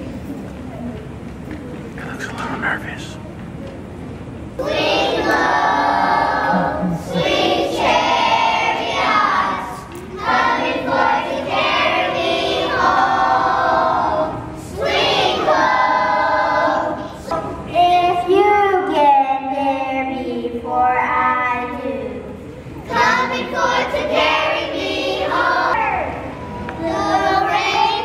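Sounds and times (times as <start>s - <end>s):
children singing together: 4.6s - 22.1s, 22.8s - 28.0s.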